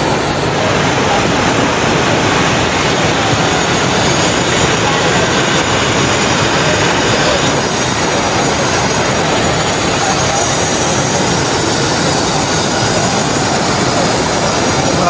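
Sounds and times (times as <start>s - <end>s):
river rushing roar: 0.0s - 15.0s.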